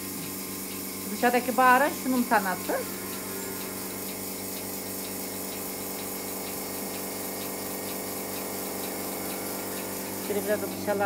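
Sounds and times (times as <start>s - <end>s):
vacuum pump humming: 0.0s - 11.0s
pulsator ticking: 0.2s - 11.0s.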